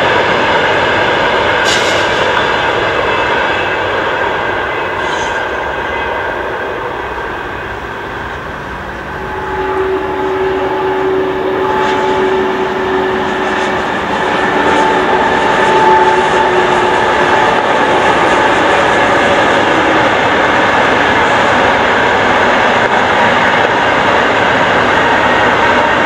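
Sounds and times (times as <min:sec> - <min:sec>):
high train whine: 0:00.0 - 0:26.0
train passing at speed: 0:00.0 - 0:26.0.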